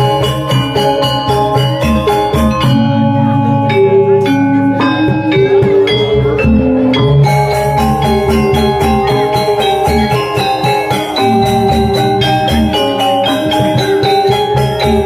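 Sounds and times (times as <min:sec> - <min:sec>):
metallophones and gong-chimes ringing: 0:00.0 - 0:15.0.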